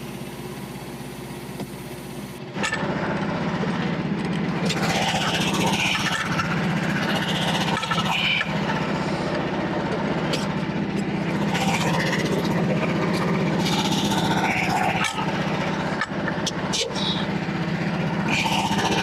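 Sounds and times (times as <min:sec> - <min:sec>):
small gasoline engine running: 0:00.0 - 0:19.0.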